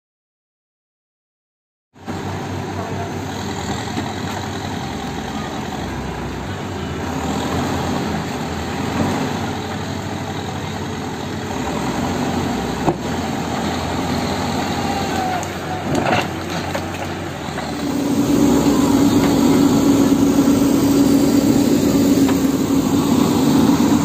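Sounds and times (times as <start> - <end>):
diesel engine running: 2.0 - 24.0.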